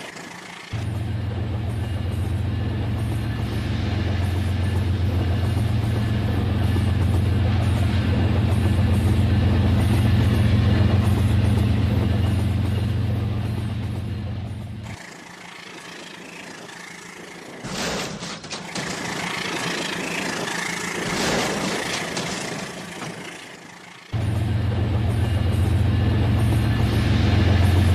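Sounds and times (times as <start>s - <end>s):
model train running: 0.0s - 27.9s.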